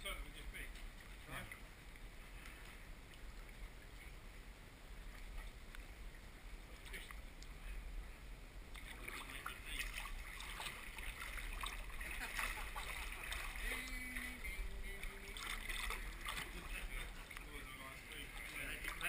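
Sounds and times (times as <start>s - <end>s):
pond water splashing: 0.0s - 19.0s
steady low hum: 0.0s - 19.0s.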